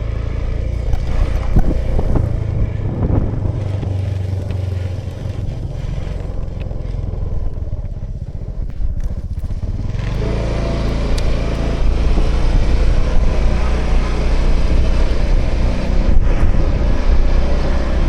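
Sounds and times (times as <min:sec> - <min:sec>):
road and wind noise: 0:00.0 - 0:18.0
scooter engine running: 0:00.0 - 0:18.0.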